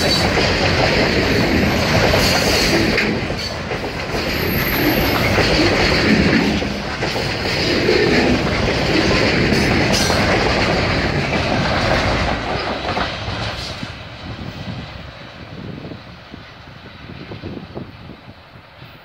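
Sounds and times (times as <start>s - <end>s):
train wheels clattering over rails: 0.0s - 16.0s.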